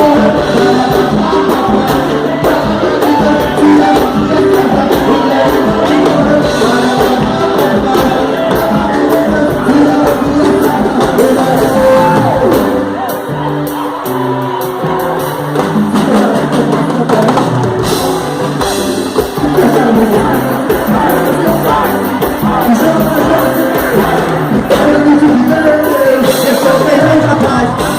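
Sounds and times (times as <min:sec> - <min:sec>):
drum kit steady beat: 0:00.0 - 0:27.9
person singing: 0:00.0 - 0:27.9
upbeat gospel band music: 0:00.0 - 0:27.9.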